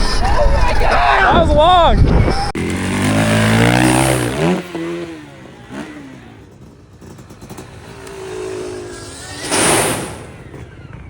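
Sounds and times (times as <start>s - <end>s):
motorcycle engine revving: 2.1s - 11.0s.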